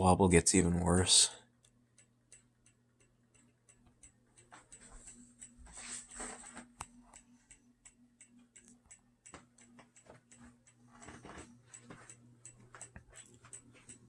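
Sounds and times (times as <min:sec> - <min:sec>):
ceiling fan motor hum: 0:00.0 - 0:14.0
wobbling fan ticking: 0:00.0 - 0:14.0.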